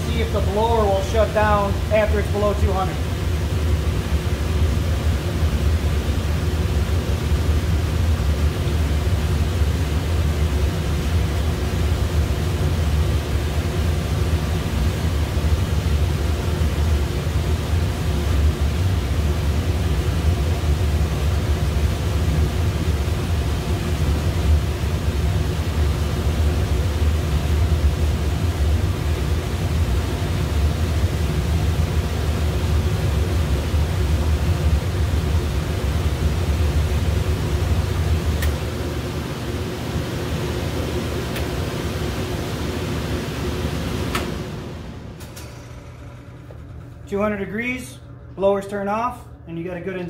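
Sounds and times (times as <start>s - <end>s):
pizza oven burner rumble: 0.0s - 48.6s.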